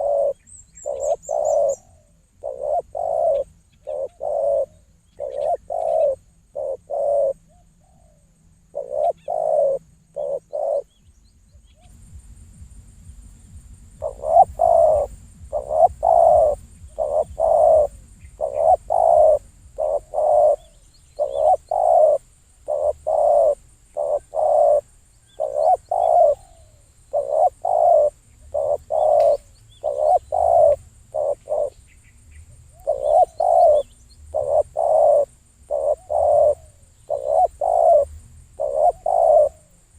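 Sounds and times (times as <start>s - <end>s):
dove cooing: 0.0s - 11.0s, 13.9s - 31.8s, 32.7s - 39.9s.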